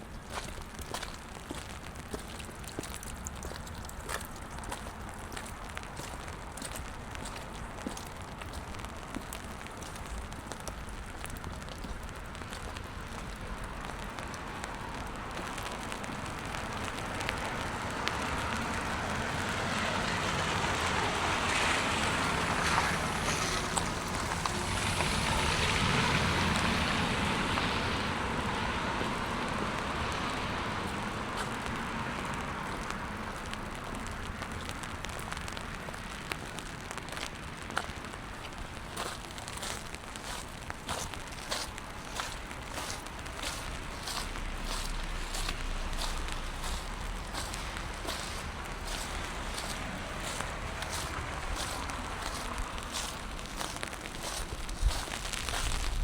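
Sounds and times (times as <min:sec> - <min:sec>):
light rain pattering: 0:00.0 - 0:56.0
tyres hissing on wet road: 0:00.1 - 0:56.0.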